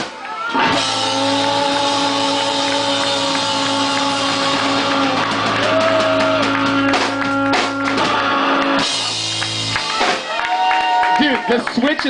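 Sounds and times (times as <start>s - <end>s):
drums: 0.0s - 12.0s.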